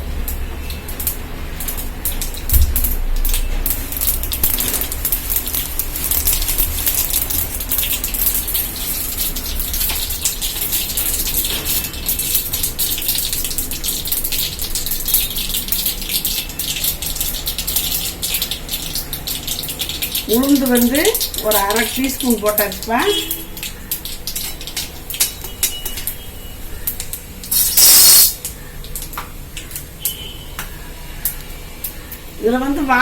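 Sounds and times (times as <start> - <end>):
seeds crackling in hot oil: 0.0 - 33.0.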